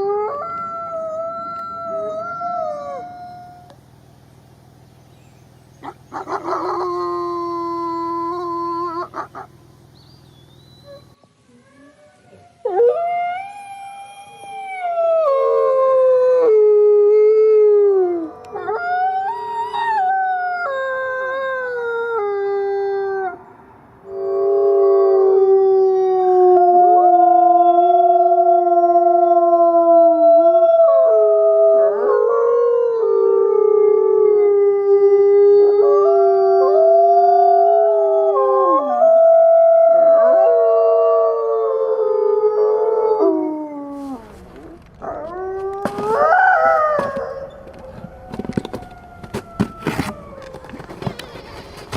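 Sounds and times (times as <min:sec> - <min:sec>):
wolves howling: 0:00.0 - 0:03.8, 0:10.8 - 0:23.4, 0:24.1 - 0:51.9.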